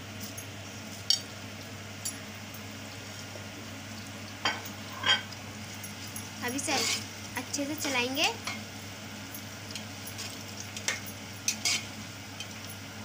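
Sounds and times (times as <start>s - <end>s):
onions and spices sizzling in oil: 0.0s - 13.0s.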